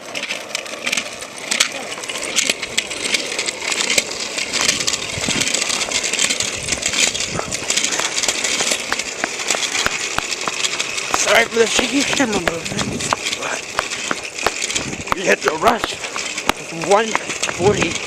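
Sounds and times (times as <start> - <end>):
hurried footsteps: 0.8 - 18.0
handheld camera rubbing: 2.0 - 18.0.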